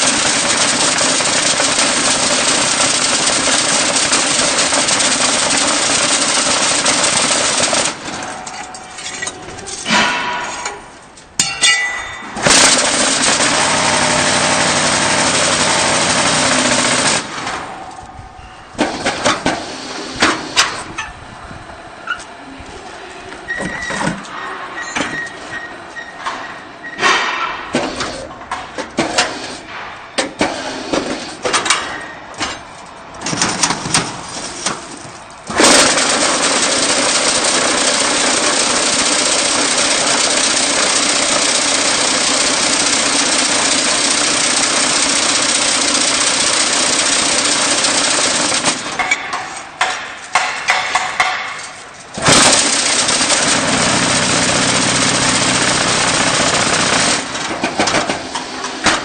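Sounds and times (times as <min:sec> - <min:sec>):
mechanical clanking and knocking: 0:00.0 - 0:21.2, 0:23.5 - 0:59.0.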